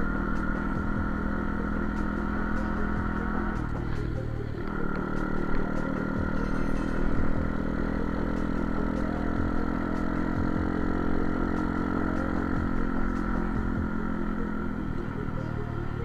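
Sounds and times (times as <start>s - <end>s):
pit bike engine running: 0.0s - 16.0s.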